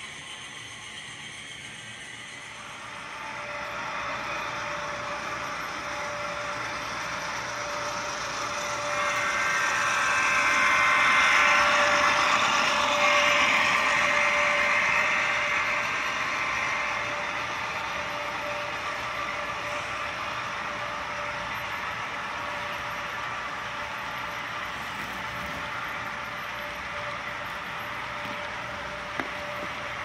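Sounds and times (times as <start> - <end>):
model train wheels rolling on track: 0.0 - 30.0.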